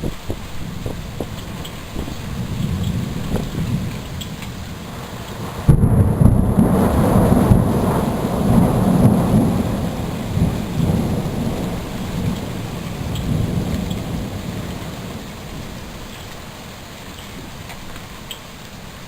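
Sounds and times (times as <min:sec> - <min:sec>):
thunder rumbling: 0:00.0 - 0:17.7
raindrops ticking: 0:00.0 - 0:19.0
steady rain: 0:00.0 - 0:19.0.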